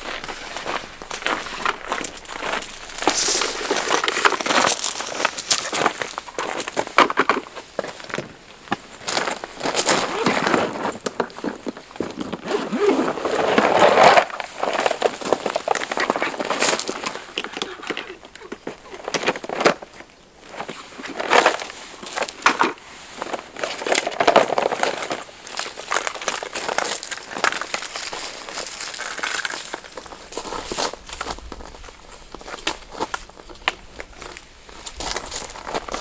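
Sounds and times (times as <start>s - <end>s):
camping gear rustling and crinkling: 0.0s - 36.0s.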